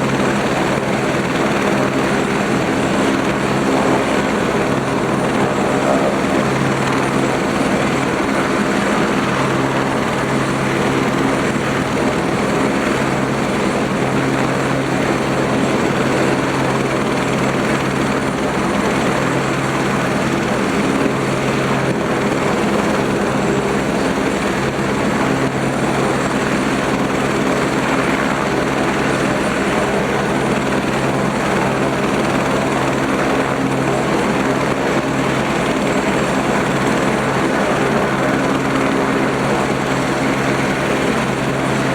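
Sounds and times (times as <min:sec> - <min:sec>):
helicopter running: 0:00.0 - 0:41.9.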